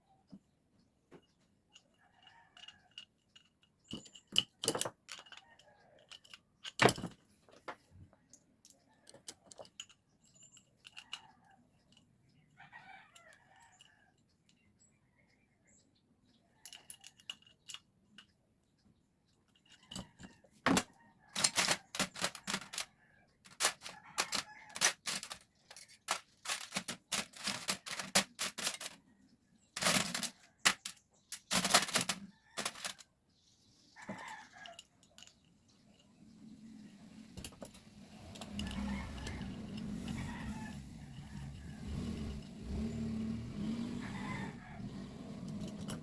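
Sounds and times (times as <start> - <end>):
metal parts and tools clicking: 1.2 - 14.6, 16.5 - 33.2, 33.9 - 46.0.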